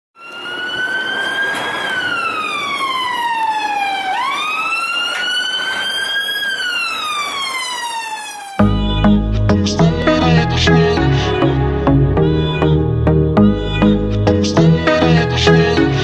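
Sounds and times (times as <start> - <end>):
police siren wailing: 0.2 - 16.0.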